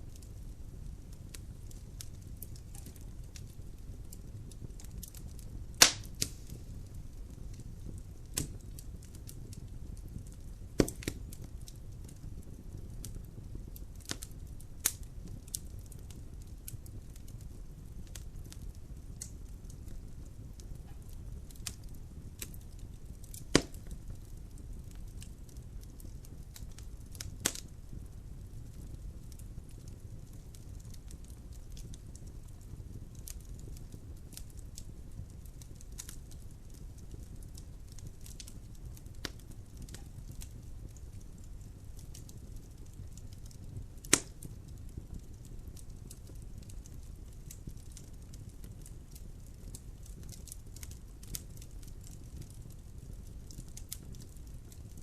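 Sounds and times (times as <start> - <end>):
burning logs crackling and popping: 0.0 - 55.0
low rumble of fire: 0.0 - 55.0.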